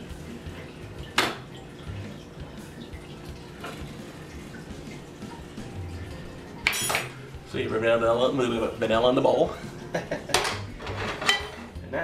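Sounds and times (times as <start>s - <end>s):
sauce sizzling and bubbling in a skillet: 0.0s - 10.8s.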